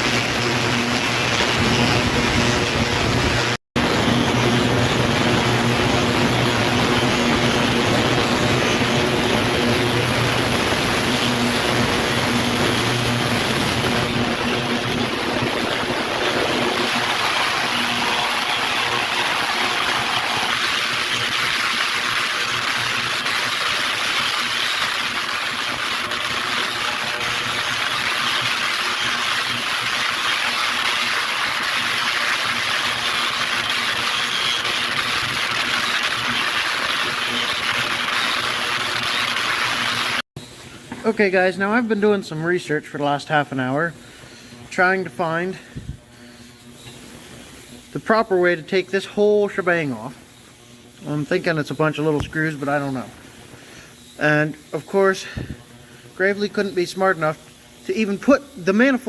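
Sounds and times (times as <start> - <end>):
ultrasonic cleaner hiss and buzz: 0.0 - 59.0.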